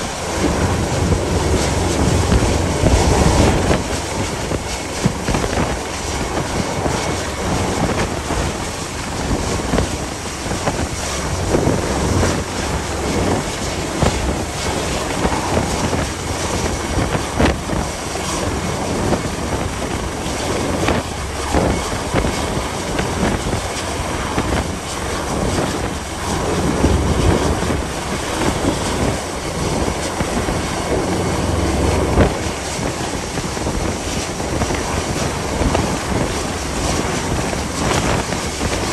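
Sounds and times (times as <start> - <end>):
low rumble: 0.0 - 19.8, 24.1 - 38.9
wind buffeting microphone: 0.0 - 38.9.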